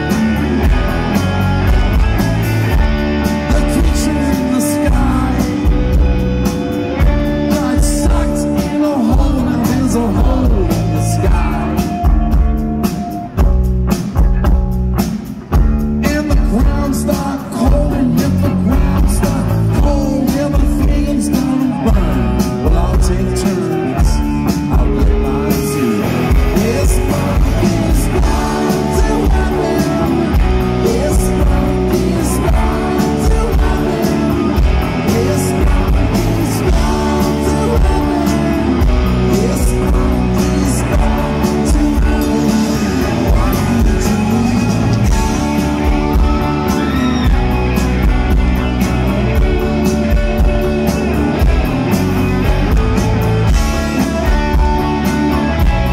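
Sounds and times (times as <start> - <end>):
live rock band playing: 0.0 - 55.9
man singing: 3.2 - 13.5, 16.0 - 51.2.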